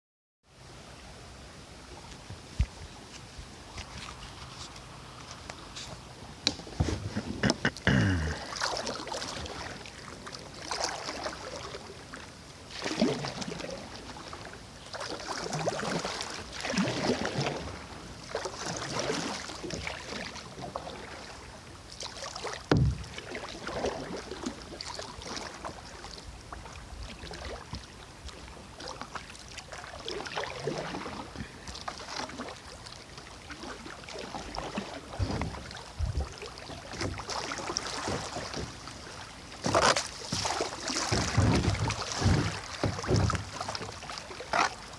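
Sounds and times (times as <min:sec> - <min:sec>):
kayak paddle splashing: 0:01.7 - 0:44.9.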